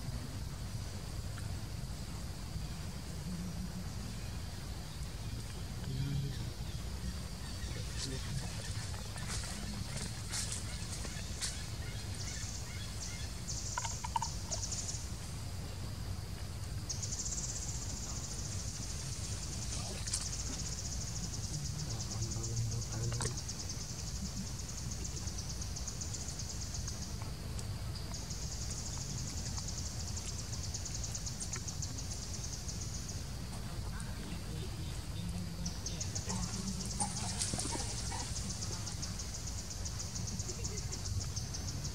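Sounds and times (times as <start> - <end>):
low steady rumble: 0.0 - 41.9.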